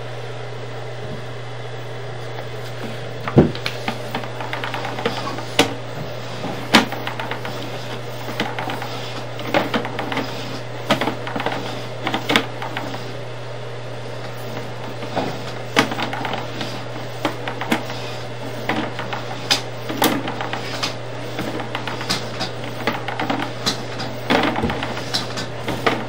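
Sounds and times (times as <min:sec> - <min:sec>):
low electrical hum: 0:00.0 - 0:26.0
camera head knocking and scraping in pipe: 0:02.7 - 0:13.2, 0:14.3 - 0:26.0.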